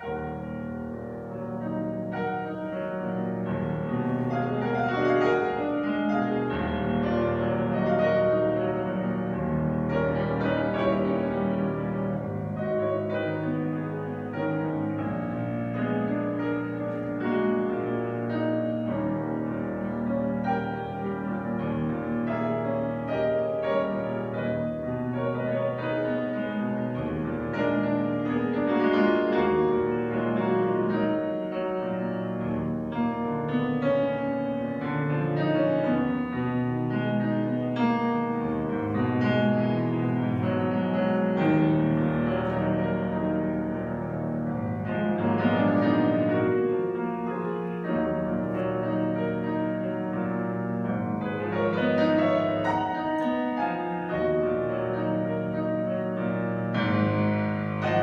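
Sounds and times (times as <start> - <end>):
solo piano classical music: 0.0 - 58.0.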